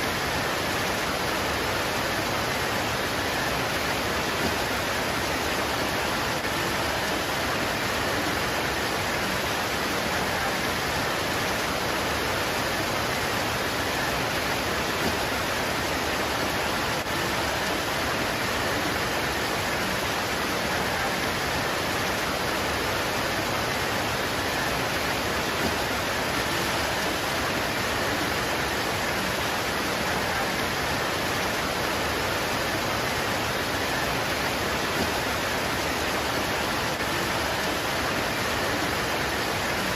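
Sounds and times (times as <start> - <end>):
rain pouring on leaves: 0.0 - 39.9.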